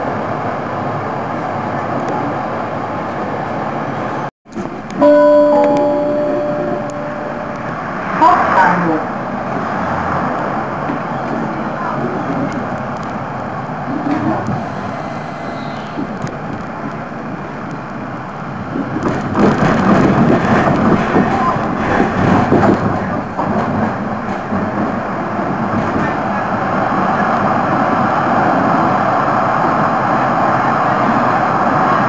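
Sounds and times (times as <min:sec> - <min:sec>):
tram running on track: 0:00.0 - 0:32.0.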